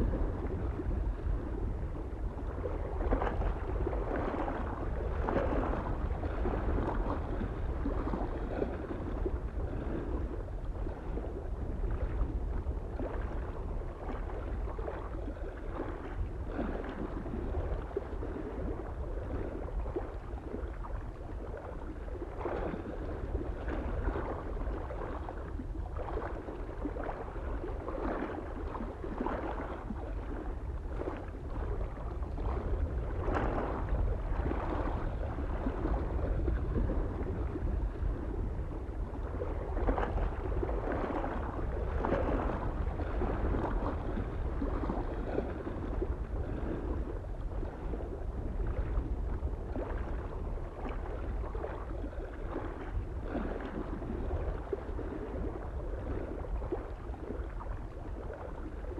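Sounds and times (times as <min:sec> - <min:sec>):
low rumble of wind: 0:00.0 - 0:58.9
small waves lapping on shore: 0:00.0 - 0:58.9.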